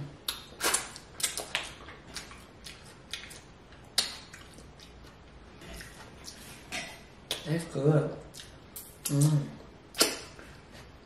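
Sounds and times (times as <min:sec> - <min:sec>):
person chewing with lip smacks: 0:00.2 - 0:07.5, 0:08.2 - 0:10.5.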